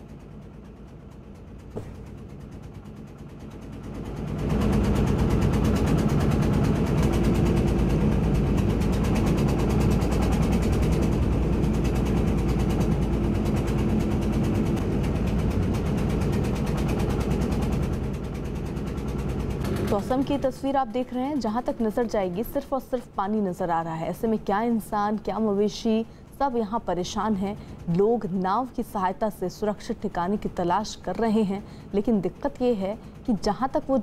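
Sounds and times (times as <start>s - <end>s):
engine running with pulsing drone: 0.0s - 34.0s.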